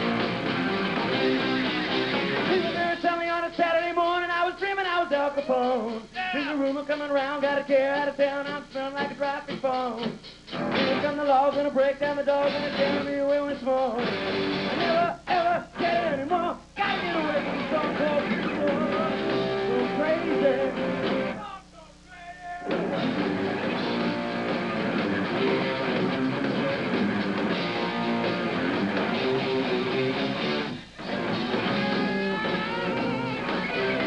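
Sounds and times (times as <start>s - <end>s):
hard rock music: 0.0s - 3.2s, 5.3s - 21.4s, 22.6s - 34.0s.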